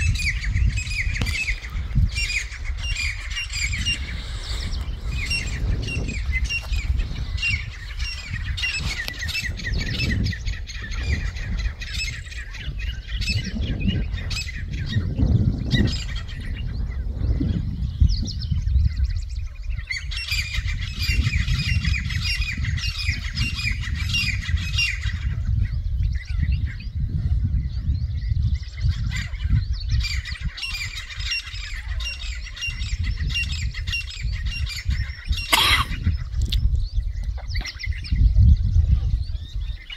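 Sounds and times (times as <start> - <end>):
birds squawking and calling: 0.0 - 39.9.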